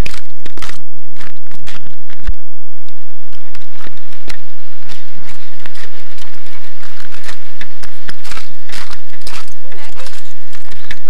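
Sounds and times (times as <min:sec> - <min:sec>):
footsteps crunching in snow: 0:00.0 - 0:11.0.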